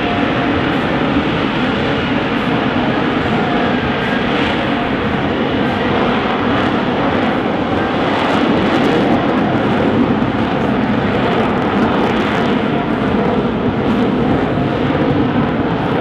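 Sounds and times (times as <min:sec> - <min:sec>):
loud steady jet noise: 0:00.0 - 0:16.0.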